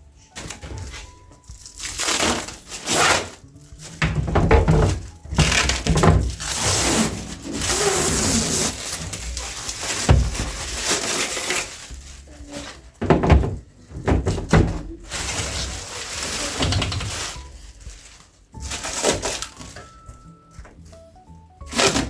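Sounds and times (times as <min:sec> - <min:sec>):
crackling and rustling: 0:00.2 - 0:21.0.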